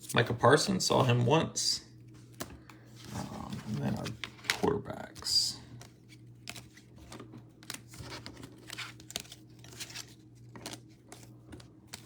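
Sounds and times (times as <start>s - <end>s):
trading cards rustling and clicking: 2.2s - 12.0s.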